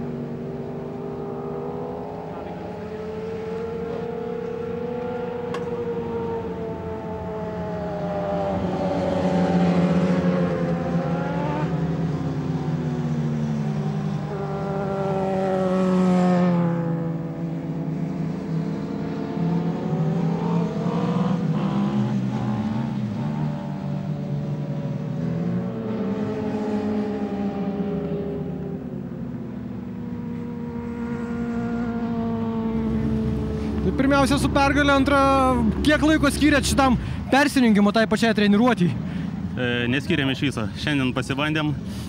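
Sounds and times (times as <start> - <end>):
racing motorcycle engines revving: 0.0 - 42.0.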